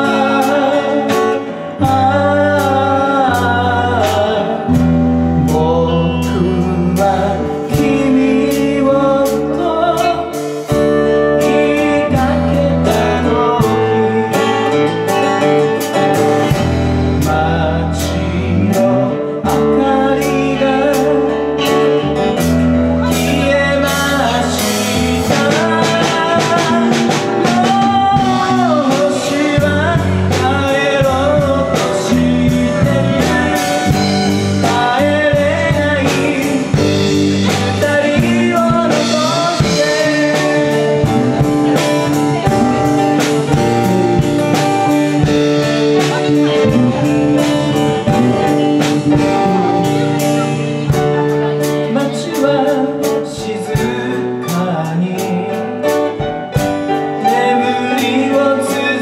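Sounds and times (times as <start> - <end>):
live folk-rock band playing: 0.0 - 59.0
person singing: 0.0 - 59.0.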